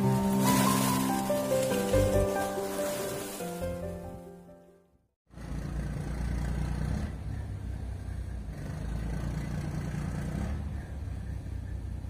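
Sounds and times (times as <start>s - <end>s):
ferry engine rumbling: 0.0s - 4.7s, 5.3s - 12.0s.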